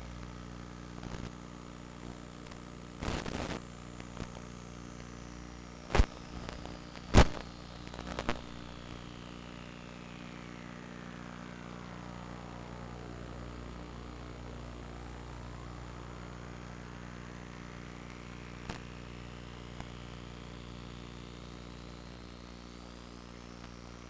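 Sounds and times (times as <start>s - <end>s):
drone motors humming: 3.6s - 24.0s.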